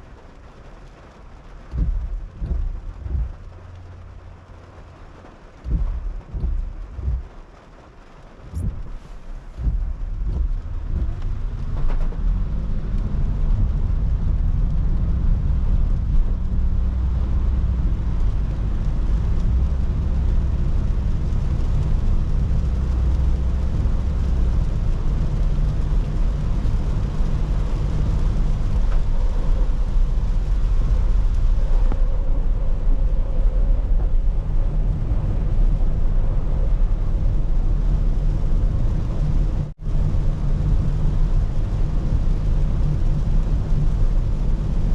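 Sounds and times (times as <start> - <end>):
car engine and road rumble: 0.0 - 44.9
hiss of wet tyres and rain: 0.0 - 44.9.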